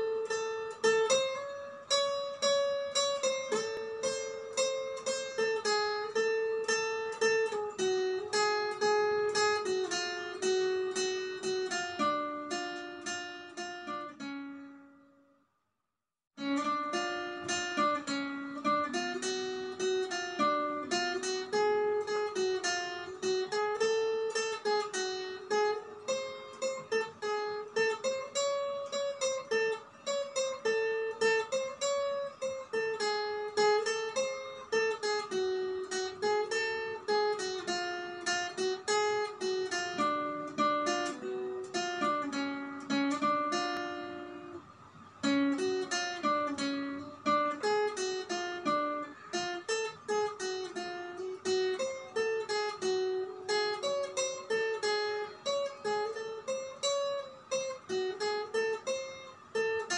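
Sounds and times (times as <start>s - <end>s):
acoustic guitar plucked melody: 0.0s - 15.4s, 16.4s - 59.9s.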